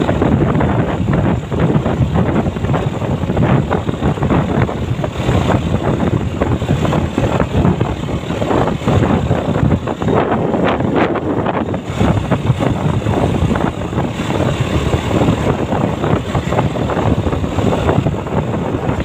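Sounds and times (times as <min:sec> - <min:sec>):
vehicle running noise: 0:00.0 - 0:19.0
wind buffeting microphone: 0:00.0 - 0:19.0.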